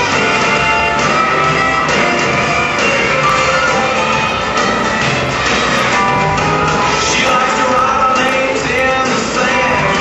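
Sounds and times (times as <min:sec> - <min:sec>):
rock and roll song over loudspeakers: 0:00.0 - 0:10.0.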